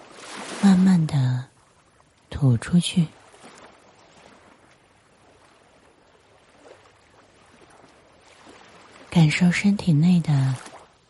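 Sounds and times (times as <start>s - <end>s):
faint ocean waves: 0.0s - 11.0s.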